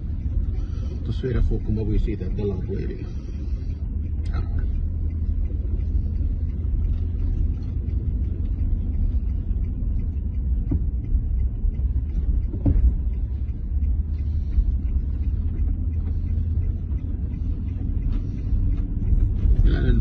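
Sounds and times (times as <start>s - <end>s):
low rumble inside moving car: 0.0s - 20.0s.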